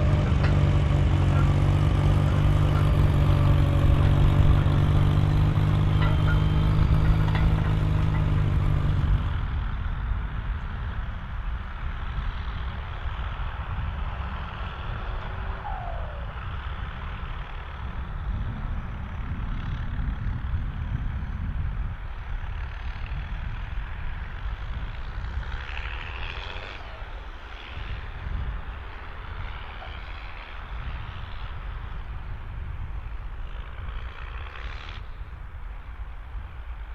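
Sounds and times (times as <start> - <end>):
rough wind-like noise: 0.0 - 36.9
tractor diesel engine running: 0.0 - 36.9.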